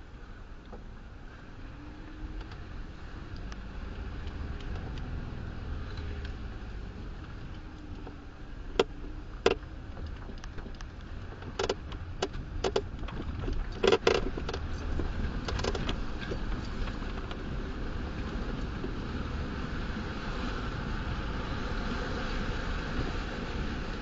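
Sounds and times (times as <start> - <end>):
vehicle engine and tyres rumbling: 0.0 - 24.0.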